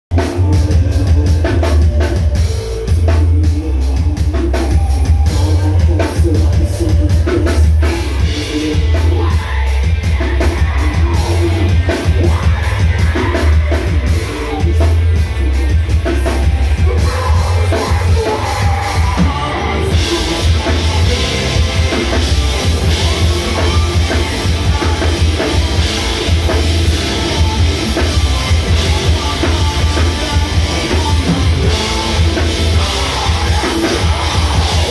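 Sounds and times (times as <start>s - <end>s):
rock band playing live: 0.1s - 34.9s.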